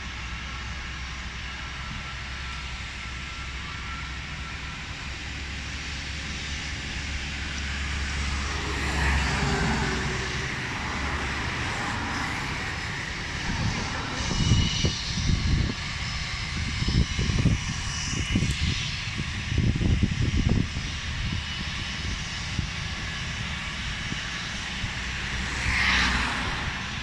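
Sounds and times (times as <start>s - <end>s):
airliner engine noise: 0.0s - 27.0s.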